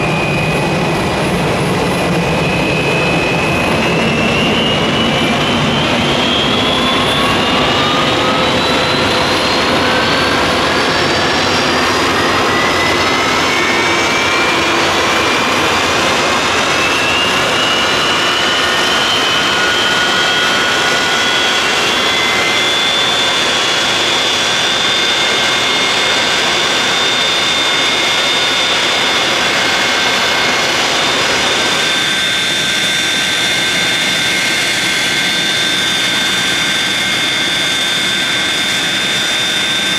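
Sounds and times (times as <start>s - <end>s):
jet engine roar: 0.0s - 39.9s
jet engine whine: 0.0s - 39.9s.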